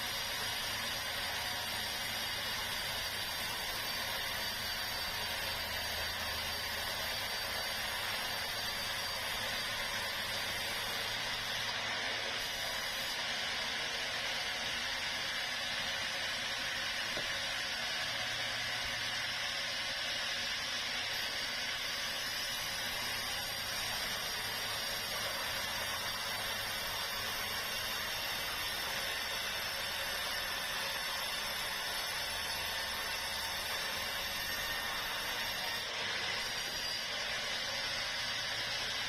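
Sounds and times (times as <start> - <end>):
sawmill saw cutting log: 0.0 - 39.0.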